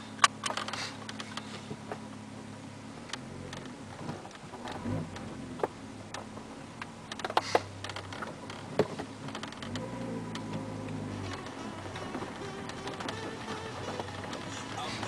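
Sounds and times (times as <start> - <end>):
interior clicks and rattles: 0.0 - 2.2, 3.0 - 15.0
car engine humming: 0.0 - 15.0.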